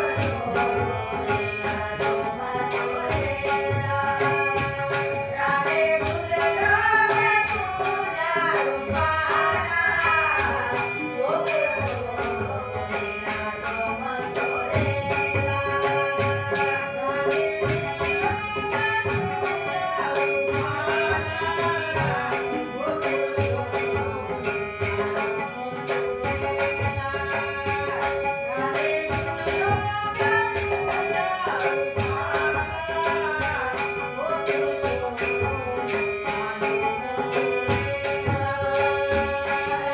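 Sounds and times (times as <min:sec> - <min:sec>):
harmonium melody with drone: 0:00.0 - 0:39.9
metallic jingle on the beat: 0:00.0 - 0:39.9
tabla strokes: 0:00.0 - 0:39.9.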